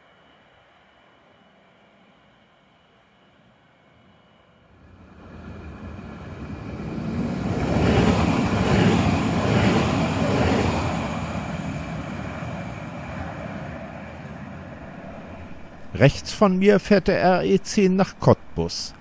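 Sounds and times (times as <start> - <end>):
electric train passing: 0.0 - 17.4.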